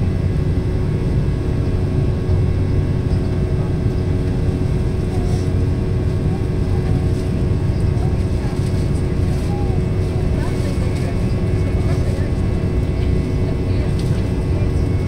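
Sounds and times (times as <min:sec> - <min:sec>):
jet cabin engine hum: 0:00.0 - 0:15.0.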